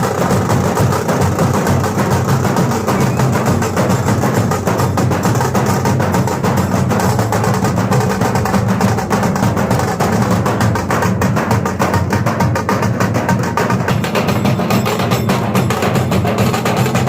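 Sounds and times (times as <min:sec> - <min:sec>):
loud drum-led music: 0:00.0 - 0:17.0.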